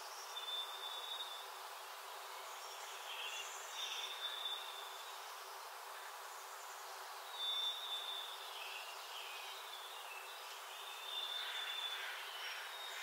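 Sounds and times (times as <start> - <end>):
faint birdsong: 0.0 - 13.0
steady hiss: 0.0 - 13.0.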